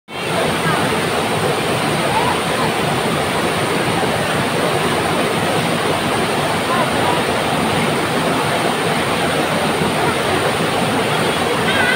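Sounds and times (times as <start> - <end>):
waterfall rushing over boulders: 0.1 - 11.9.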